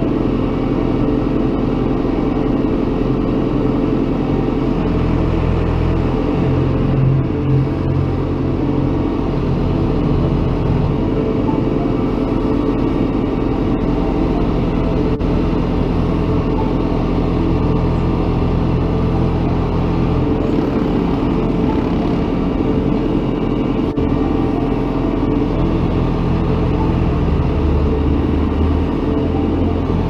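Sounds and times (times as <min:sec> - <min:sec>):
heavy engine humming: 0:00.0 - 0:30.0.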